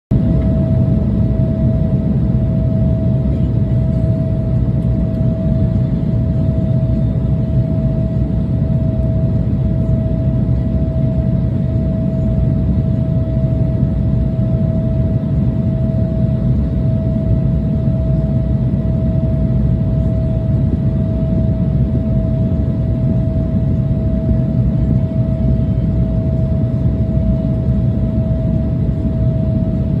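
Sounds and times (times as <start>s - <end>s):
airliner cabin drone: 0.1s - 30.0s.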